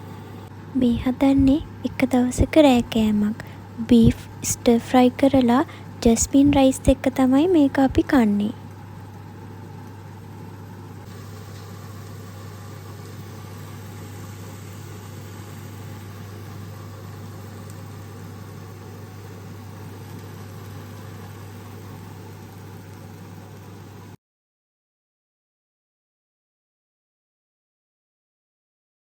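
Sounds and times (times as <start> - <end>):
motor hum with rushing noise: 0.0 - 24.2.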